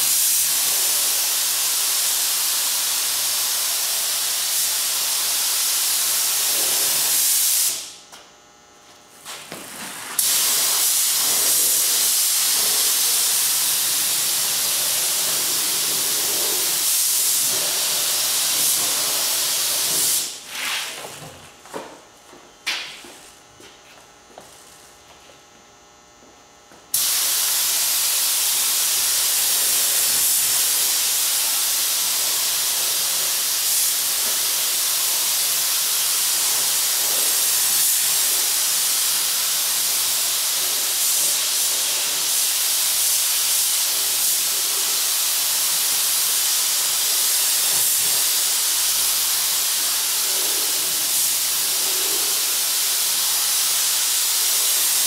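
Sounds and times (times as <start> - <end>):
paint spray gun hissing: 0.0 - 8.0, 9.5 - 20.8, 26.9 - 55.0.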